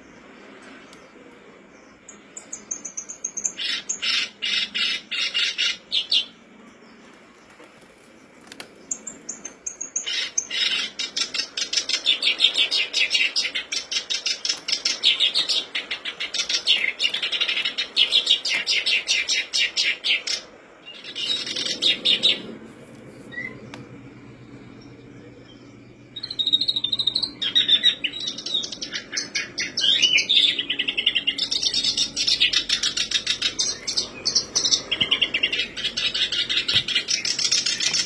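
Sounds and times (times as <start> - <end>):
warbler singing: 0.0 - 38.0.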